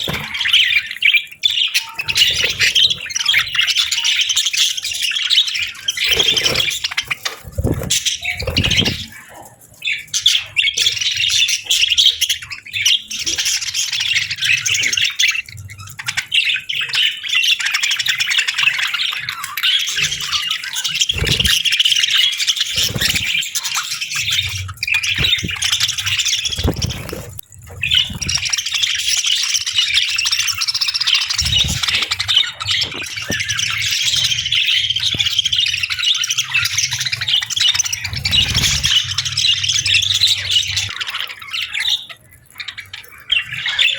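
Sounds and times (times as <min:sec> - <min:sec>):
budgerigars chirping: 0:00.0 - 0:43.9.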